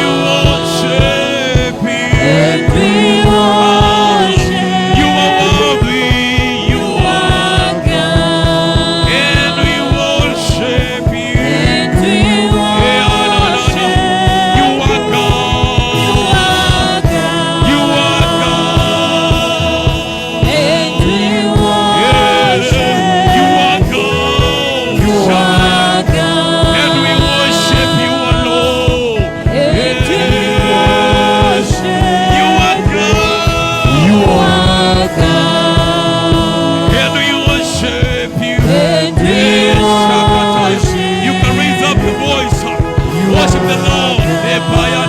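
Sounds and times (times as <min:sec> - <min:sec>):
keyboard: 0:00.0 - 0:45.0
steady beat with bass: 0:00.0 - 0:45.0
voices singing together: 0:00.0 - 0:45.0.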